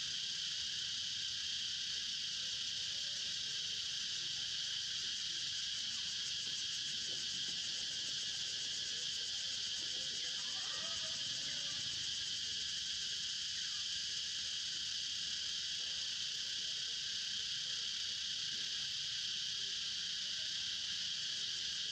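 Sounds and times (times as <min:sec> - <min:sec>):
high-pitched insect chorus: 0:00.0 - 0:21.9.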